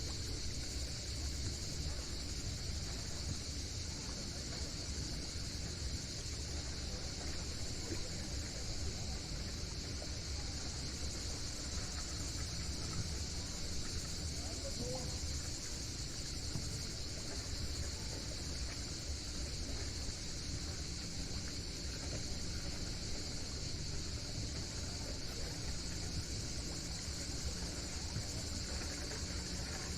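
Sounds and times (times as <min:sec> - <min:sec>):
cicadas buzzing: 0:00.0 - 0:29.9.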